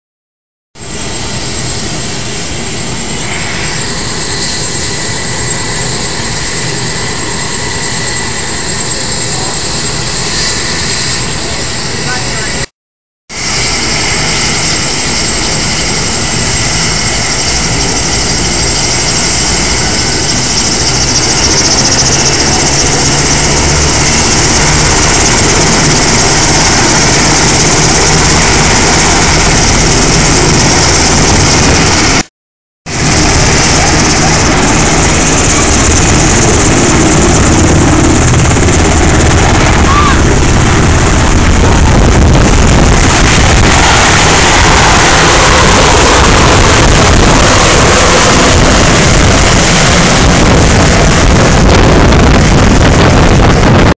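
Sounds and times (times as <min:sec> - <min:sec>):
helicopter turbine and rotor: 0:00.8 - 0:12.7, 0:13.3 - 0:32.3, 0:32.9 - 0:53.9.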